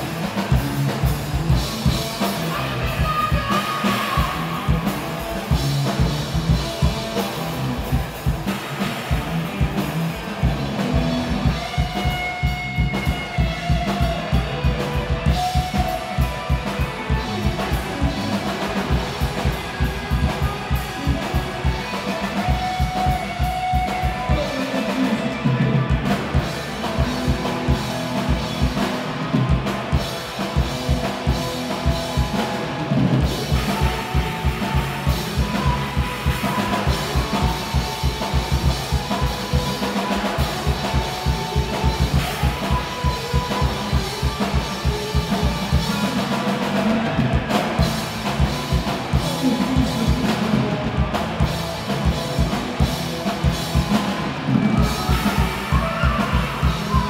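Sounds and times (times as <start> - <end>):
drum kit kick and snare beat: 0.0 - 57.0
rock band playing live: 0.0 - 57.0.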